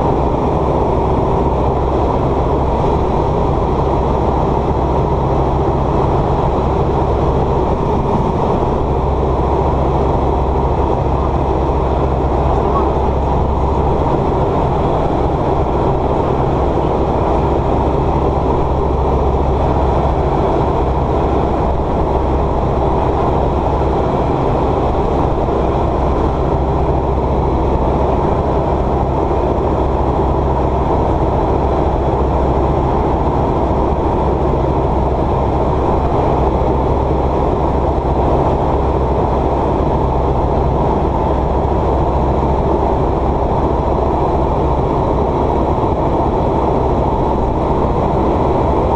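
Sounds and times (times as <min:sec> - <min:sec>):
light aircraft engine droning: 0:00.0 - 0:48.9.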